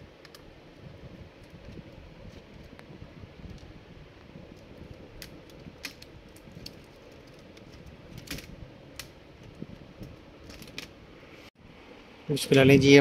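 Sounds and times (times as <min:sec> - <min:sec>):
handling rustle: 0:00.1 - 0:11.5.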